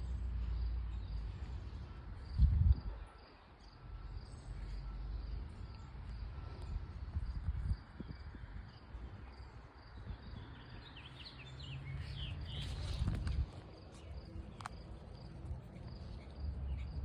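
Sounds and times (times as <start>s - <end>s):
low rumble on microphone: 0.0s - 3.3s, 4.0s - 11.0s, 11.6s - 17.0s.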